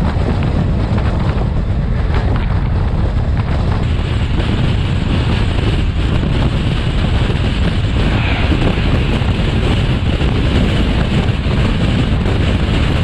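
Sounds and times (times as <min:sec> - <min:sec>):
overtaking train: 0:00.0 - 0:13.0
passenger train rumbling: 0:00.0 - 0:13.0
wind rushing over microphone: 0:00.0 - 0:13.0.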